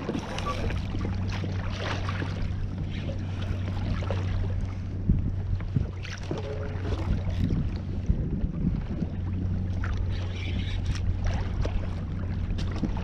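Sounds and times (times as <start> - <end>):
steady low hum: 0.0 - 13.0
water noise: 0.0 - 13.0
wind: 0.0 - 13.0.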